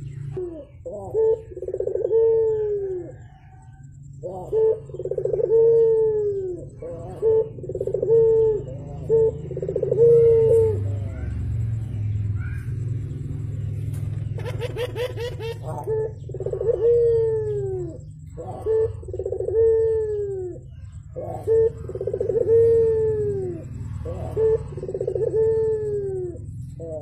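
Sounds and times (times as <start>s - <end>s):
dove cooing: 0.0s - 27.0s
steady low hum: 0.0s - 27.0s.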